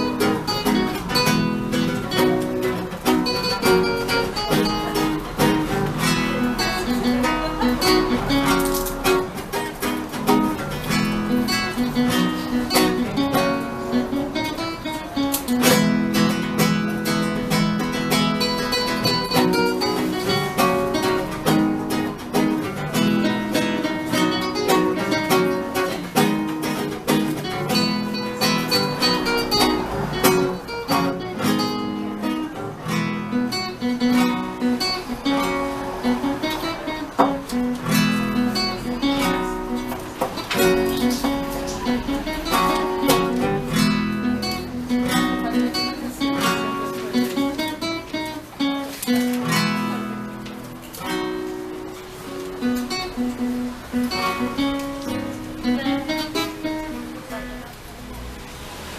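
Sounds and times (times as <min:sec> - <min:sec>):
acoustic guitar music: 0:00.0 - 0:58.9.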